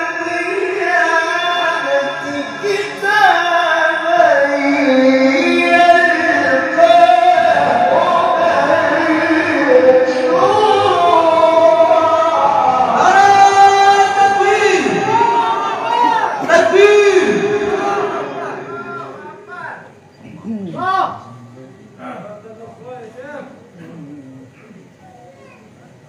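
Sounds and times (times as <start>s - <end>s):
man chanting through a microphone: 0.0s - 24.7s.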